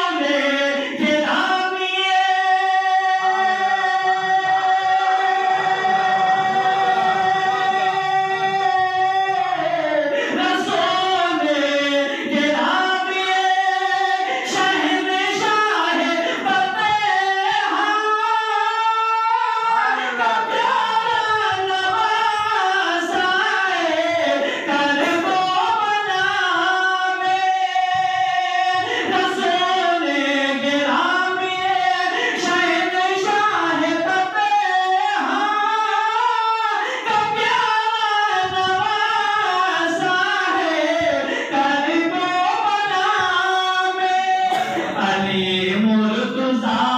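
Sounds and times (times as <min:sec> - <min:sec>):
man chanting into a microphone: 0:00.0 - 0:46.9.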